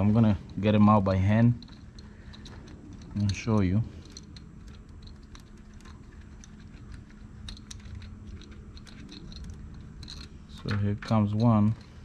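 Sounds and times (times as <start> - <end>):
low steady hum: 0.0 - 12.0
screws clicking and scraping: 0.0 - 12.0.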